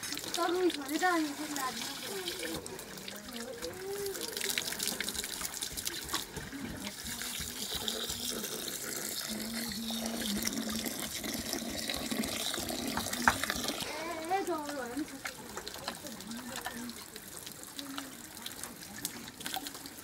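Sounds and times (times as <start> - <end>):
water running and splashing: 0.0 - 20.0.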